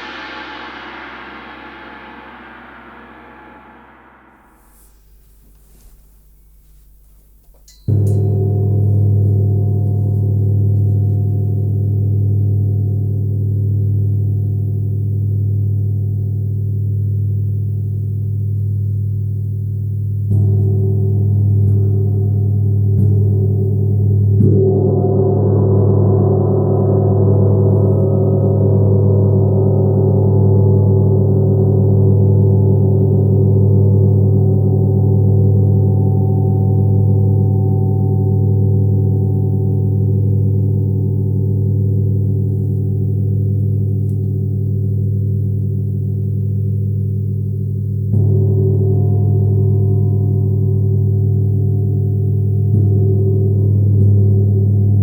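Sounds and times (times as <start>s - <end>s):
meditation gong ringing: 7.8s - 18.6s, 20.2s - 55.0s.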